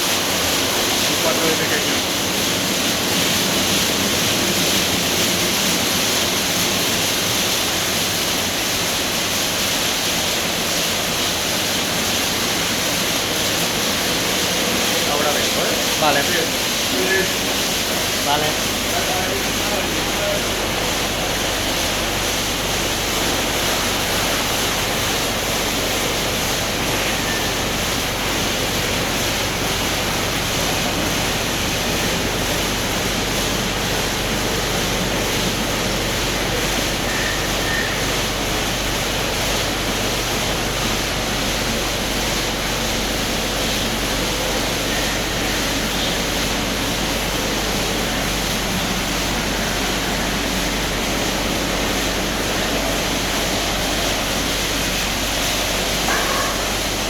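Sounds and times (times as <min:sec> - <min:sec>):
car wash water spray and machinery: 0:00.0 - 0:57.0.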